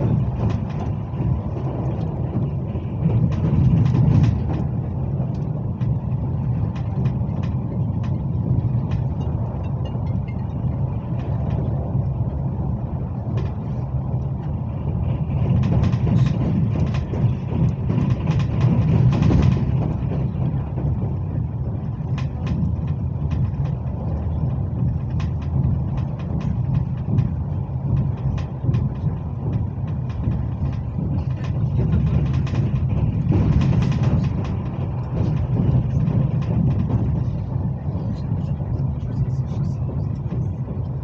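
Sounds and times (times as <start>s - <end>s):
train low rumble: 0.0s - 41.0s.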